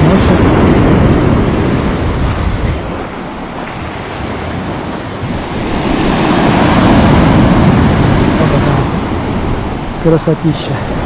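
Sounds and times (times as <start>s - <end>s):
waves on pebble beach: 0.0s - 11.0s.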